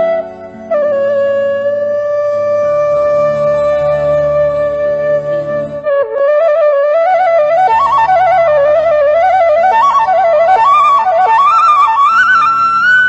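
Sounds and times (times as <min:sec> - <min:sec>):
bamboo flute melody: 0:00.0 - 0:13.0
low sustained accompaniment: 0:00.0 - 0:13.0.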